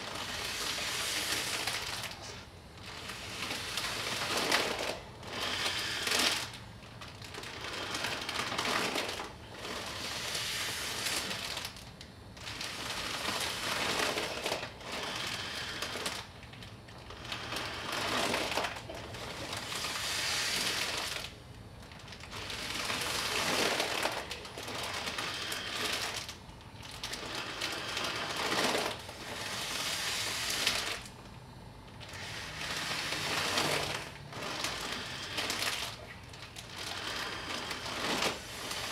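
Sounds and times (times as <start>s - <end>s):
plastic bag crinkling: 0.0s - 38.9s.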